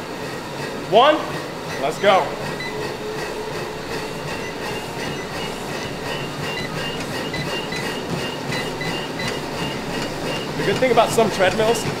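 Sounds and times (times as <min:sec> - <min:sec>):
runners' footfalls on treadmills: 0:00.0 - 0:12.0
treadmill motors whirring: 0:00.0 - 0:12.0.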